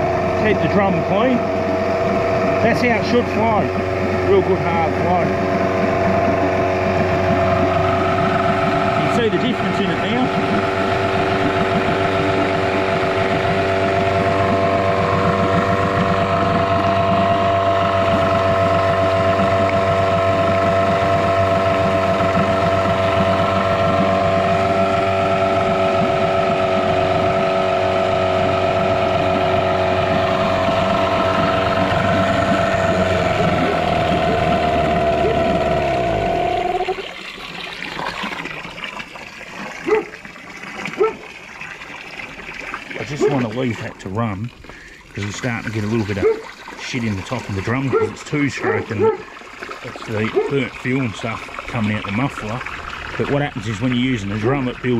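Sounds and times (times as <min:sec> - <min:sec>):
outboard motor running: 0:00.0 - 0:54.9
water trickling from hose: 0:00.0 - 0:54.9.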